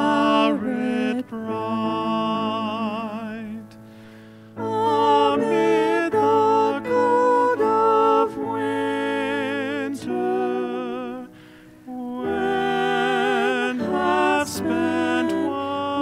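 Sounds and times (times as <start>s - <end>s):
person singing with vibrato: 0.0s - 3.8s, 4.6s - 16.0s
piano: 0.0s - 16.0s.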